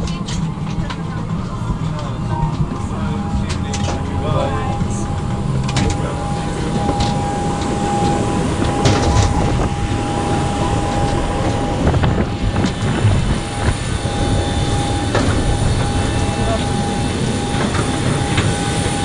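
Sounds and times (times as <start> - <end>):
moving vehicle rumble: 0.0 - 19.0
thin high tone: 2.2 - 12.4, 13.4 - 19.0.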